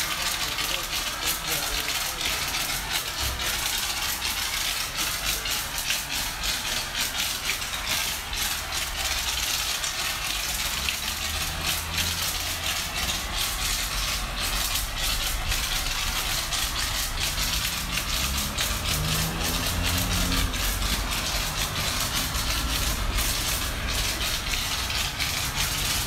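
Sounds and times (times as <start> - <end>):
pressure washer spray hissing: 0.0 - 26.0
washer motor and pump hum: 0.0 - 26.0.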